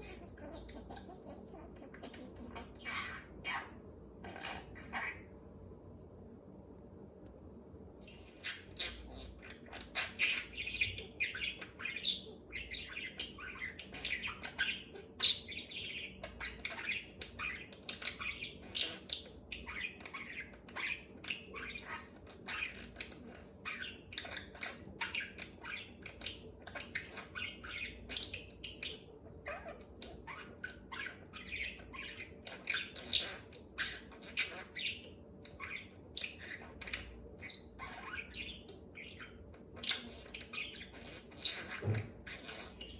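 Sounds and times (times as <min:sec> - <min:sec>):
budgerigar chattering: 0:08.3 - 0:42.9.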